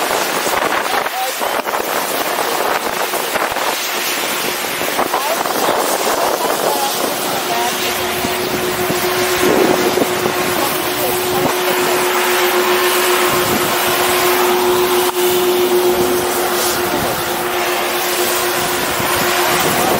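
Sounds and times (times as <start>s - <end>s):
constant hum: 0.0s - 19.9s
wind rushing over microphone: 0.0s - 19.9s.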